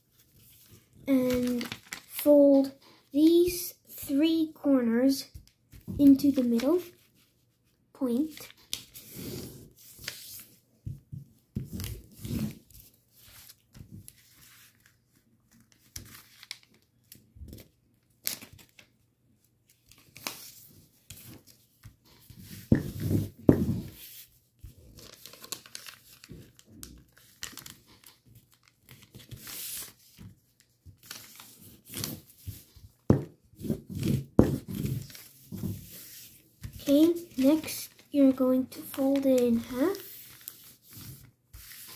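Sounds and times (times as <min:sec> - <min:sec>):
paper rustling and crinkling: 0:00.1 - 0:03.0, 0:05.3 - 0:10.6, 0:11.2 - 0:19.0, 0:19.6 - 0:41.9.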